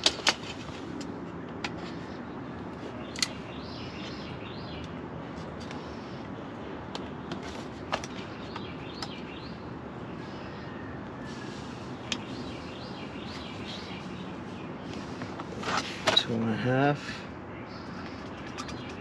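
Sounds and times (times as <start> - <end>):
steady outdoor noise: 0.0 - 19.0
birds chirping faintly: 0.8 - 19.0.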